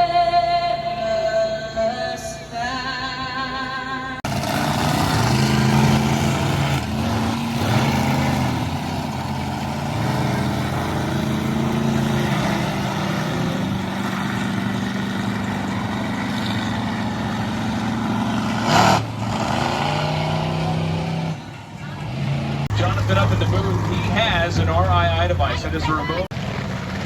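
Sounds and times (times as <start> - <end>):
monster truck engines droning: 0.0 - 27.0.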